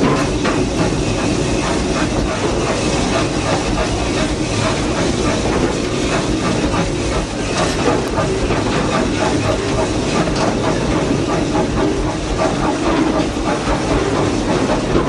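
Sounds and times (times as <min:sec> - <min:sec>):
train car rumble and clatter: 0:00.0 - 0:15.0.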